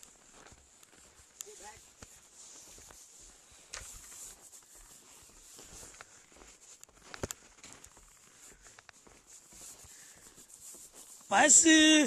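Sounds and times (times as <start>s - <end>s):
footsteps on packed snow: 0.0s - 12.0s.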